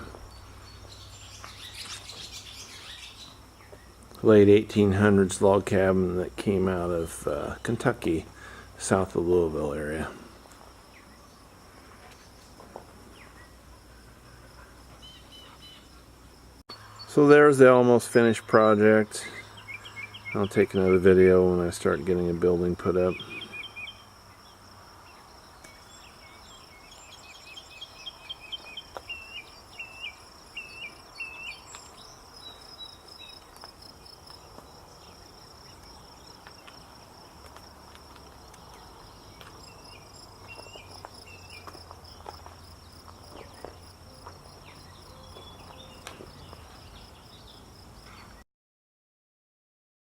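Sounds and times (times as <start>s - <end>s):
crickets trilling: 0.0s - 48.2s.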